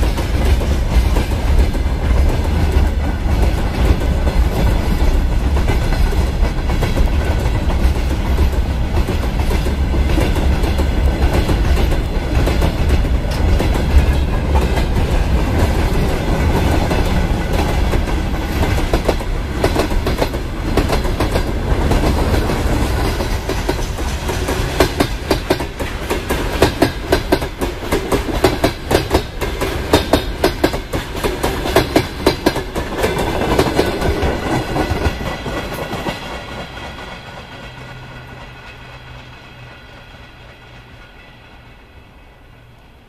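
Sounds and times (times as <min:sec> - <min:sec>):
train wheels clattering over rail joints: 0:00.0 - 0:39.8.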